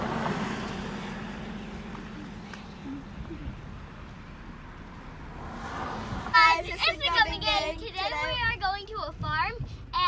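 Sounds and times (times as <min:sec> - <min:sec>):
car driving rumble from inside: 0:00.0 - 0:08.6.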